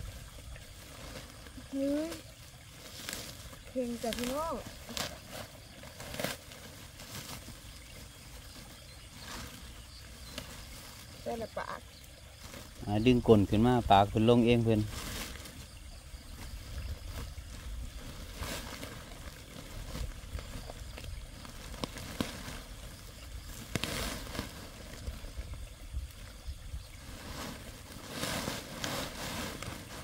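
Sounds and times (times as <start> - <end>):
net and plastic sack rustling: 0.0 - 30.0.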